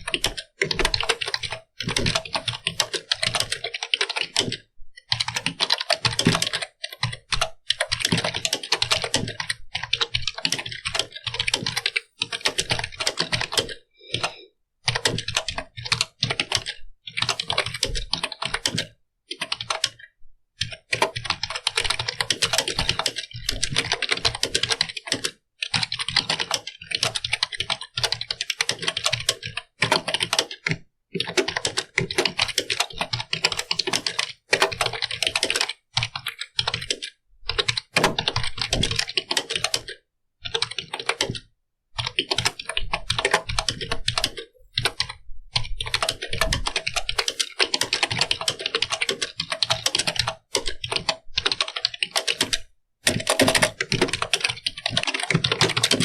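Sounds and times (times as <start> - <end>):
keyboard typing: 0.0 - 56.0.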